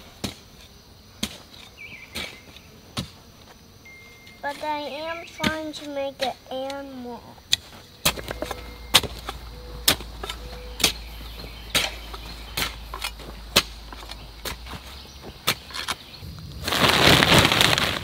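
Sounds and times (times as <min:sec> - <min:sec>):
hoes chopping into soil: 0:00.0 - 0:03.6, 0:04.4 - 0:06.9, 0:07.5 - 0:16.2.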